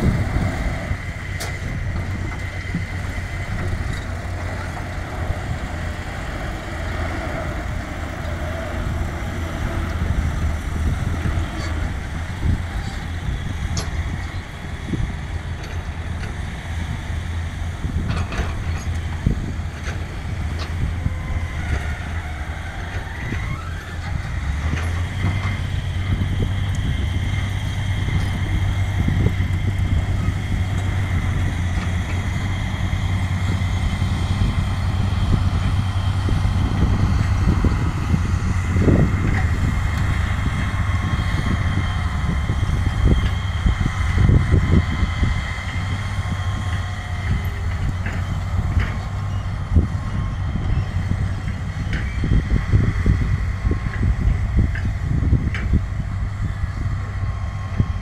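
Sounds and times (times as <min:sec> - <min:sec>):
diesel truck engine running: 0:00.0 - 0:58.0
steady whine: 0:00.0 - 0:58.0.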